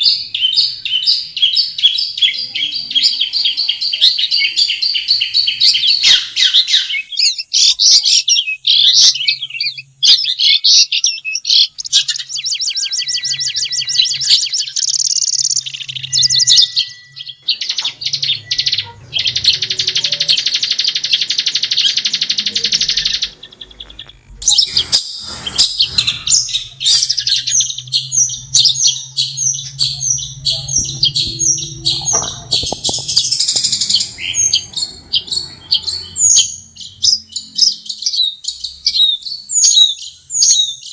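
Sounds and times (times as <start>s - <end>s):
bird singing chattering song: 0.0s - 40.9s.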